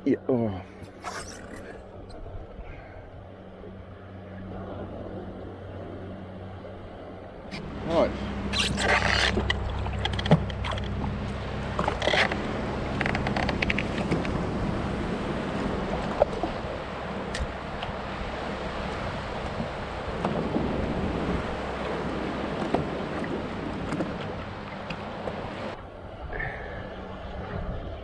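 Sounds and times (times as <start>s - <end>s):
water noise: 0.0s - 28.0s
wind: 0.0s - 28.0s
jet ski engine idling: 0.3s - 27.5s.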